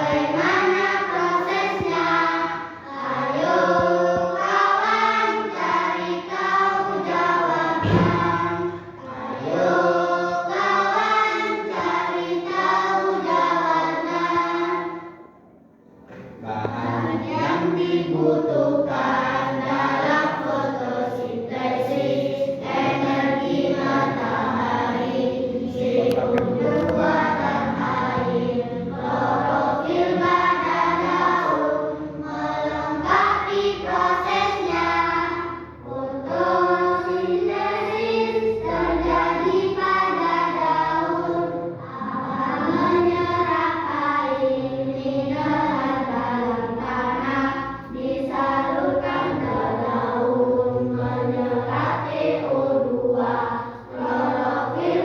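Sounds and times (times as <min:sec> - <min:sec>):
group of people singing: 0:00.0 - 0:15.5, 0:16.1 - 0:55.0.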